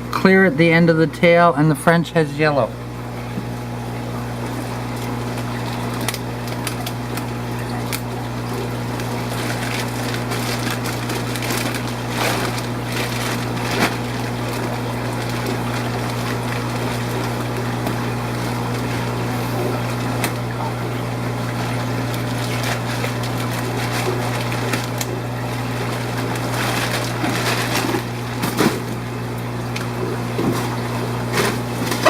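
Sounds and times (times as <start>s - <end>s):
aquarium pumps humming: 0.0s - 32.0s.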